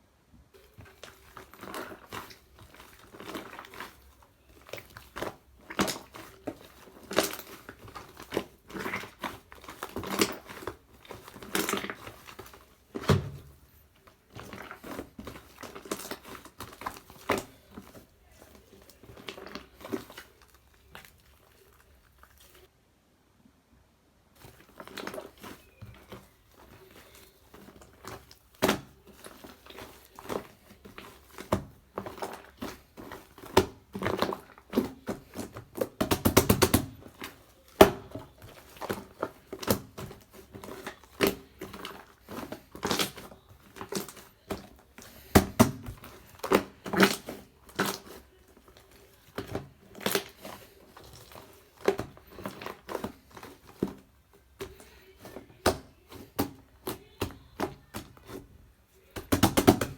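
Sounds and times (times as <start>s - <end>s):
slime squished by hand: 0.6s - 22.7s, 24.4s - 58.5s.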